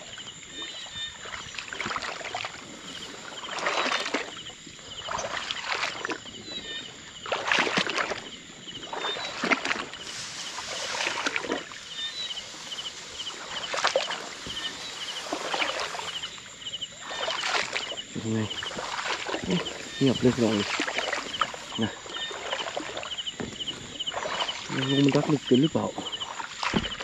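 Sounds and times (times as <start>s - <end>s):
footsteps wading through water: 0.0s - 27.0s.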